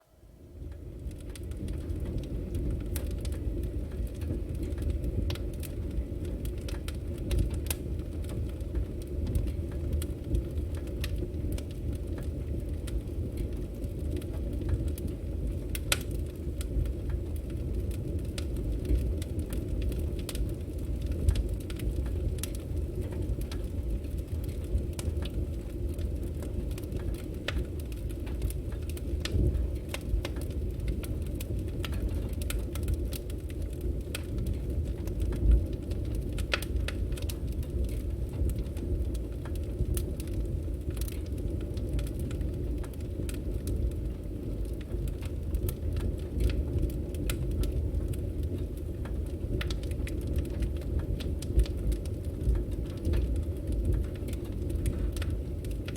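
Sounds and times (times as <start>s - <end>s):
low rumble of flames: 0.0s - 55.9s
logs crackling and popping: 0.6s - 55.9s.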